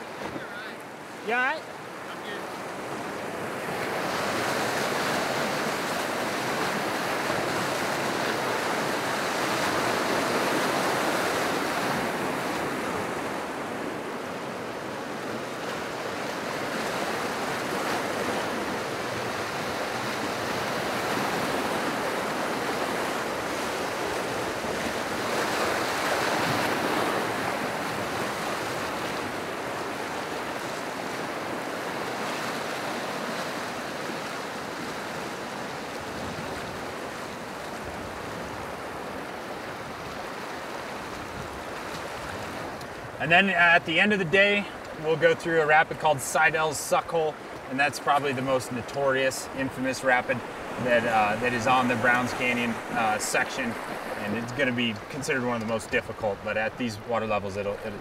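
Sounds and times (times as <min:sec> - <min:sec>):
whitewater rapids rushing over boulders: 0:00.0 - 0:58.0.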